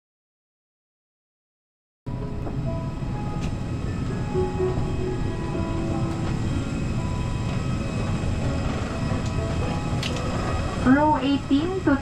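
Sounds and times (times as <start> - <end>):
airliner cabin rumble: 2.1 - 12.0.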